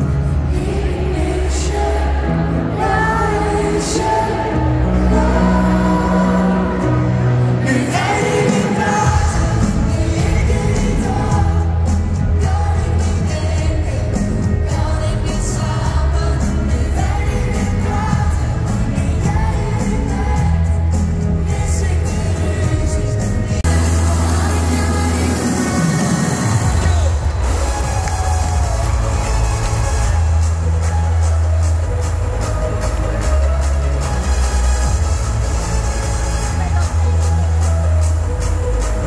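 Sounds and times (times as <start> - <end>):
person singing: 0.0 - 35.4
bass guitar: 0.0 - 39.0
live pop song through loudspeakers: 0.0 - 39.0.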